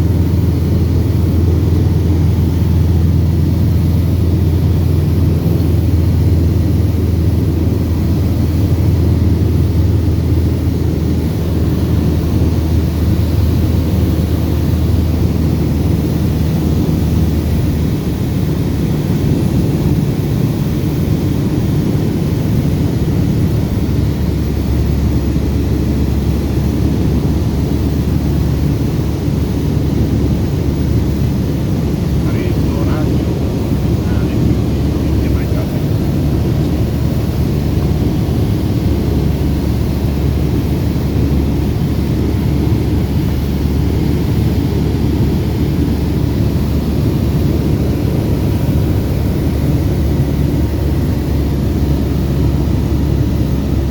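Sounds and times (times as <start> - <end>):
airplane engine and propeller drone: 0.0 - 53.9.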